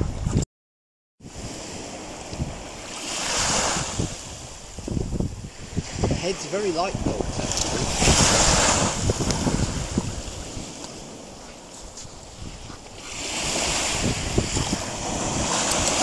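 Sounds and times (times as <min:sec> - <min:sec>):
wind buffeting microphone: 0:00.0 - 0:00.4, 0:01.2 - 0:16.0
small waves washing onto beach: 0:01.2 - 0:16.0.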